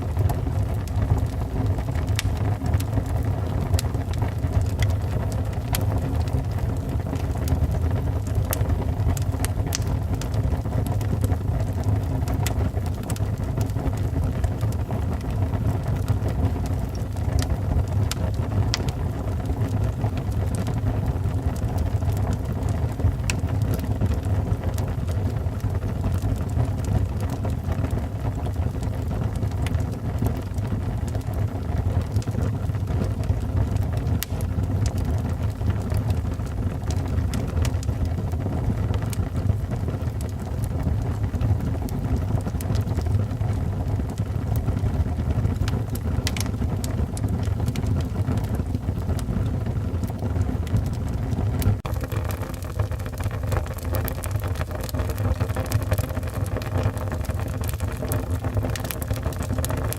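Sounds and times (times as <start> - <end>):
fire crackling and popping: 0.0 - 59.9
wood fire rushing: 0.0 - 59.9.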